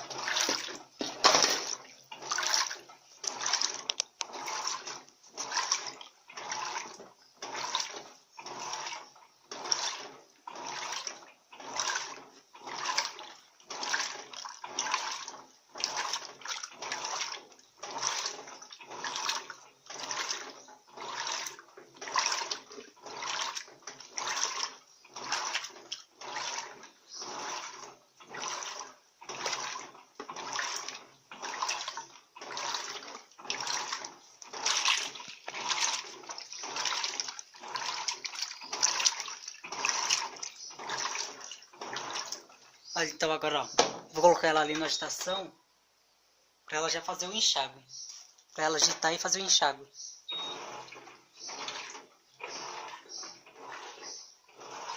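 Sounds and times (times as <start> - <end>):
washing machine swishing and sloshing: 0.0 - 45.5, 48.6 - 54.9.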